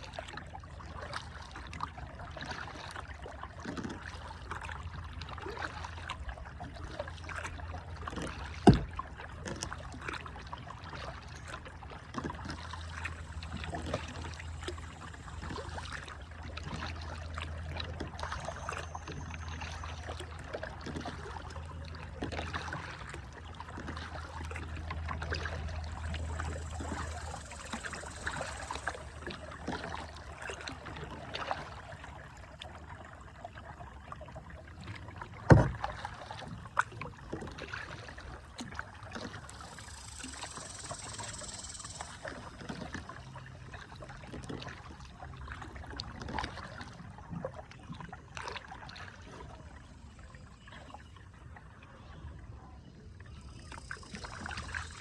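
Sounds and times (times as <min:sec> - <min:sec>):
paddle strokes splashing: 0:00.0 - 0:49.9, 0:53.2 - 0:55.0
water trickling off paddle: 0:00.0 - 0:55.0.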